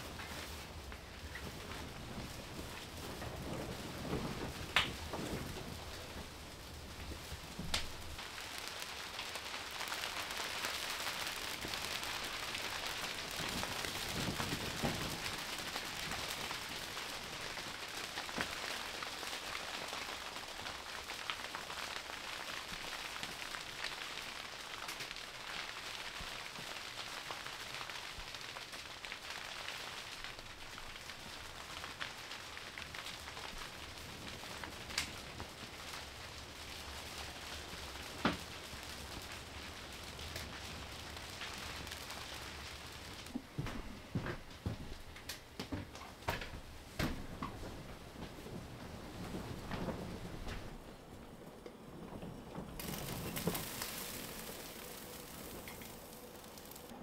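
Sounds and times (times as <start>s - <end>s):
rain on canvas tent roof: 0.0s - 57.0s.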